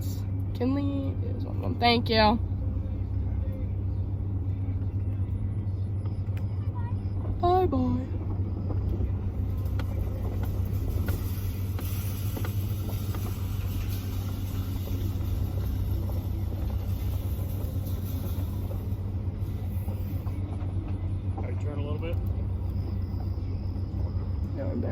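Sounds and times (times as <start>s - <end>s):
truck engine droning: 0.0s - 24.9s.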